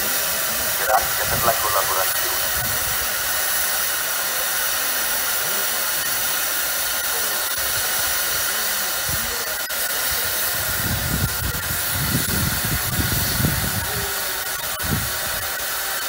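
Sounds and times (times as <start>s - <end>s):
steam venting hiss: 0.0s - 16.0s.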